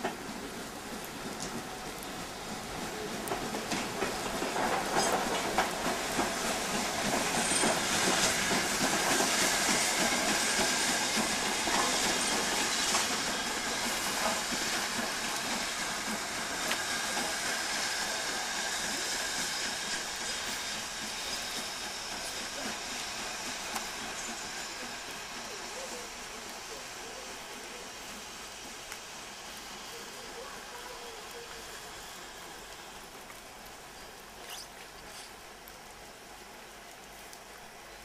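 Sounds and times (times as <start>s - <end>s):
steam hissing: 0.0s - 38.0s
train wheels clicking on rails: 0.0s - 38.0s.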